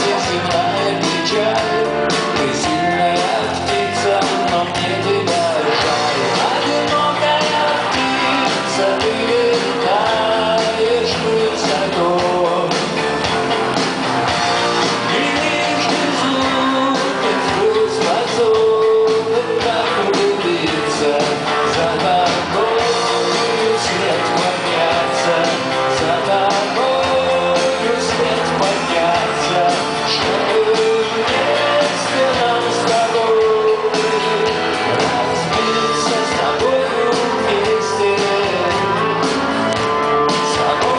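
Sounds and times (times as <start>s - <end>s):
man singing: 0.0s - 13.2s, 14.4s - 40.9s
electric guitars: 0.0s - 40.9s
live rock band playing: 0.0s - 40.9s.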